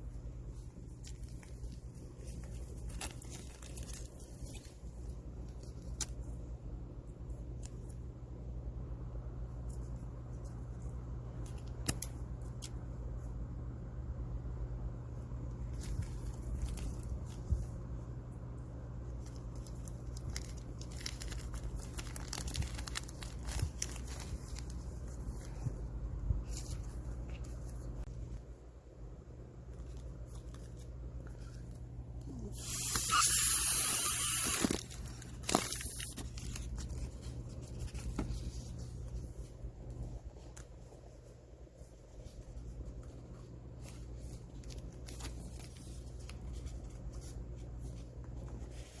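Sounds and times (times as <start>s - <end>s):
crackles and clicks of handling: 0.0s - 8.5s, 9.2s - 13.4s, 15.1s - 28.6s, 29.4s - 33.2s, 34.2s - 49.0s
steady low hum: 0.0s - 49.0s.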